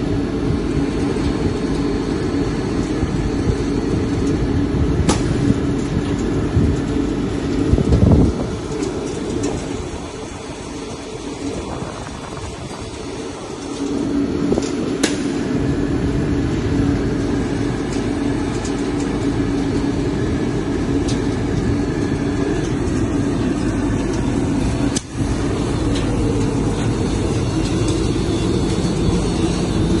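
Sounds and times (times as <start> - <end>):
industrial machinery running: 0.0 - 30.0.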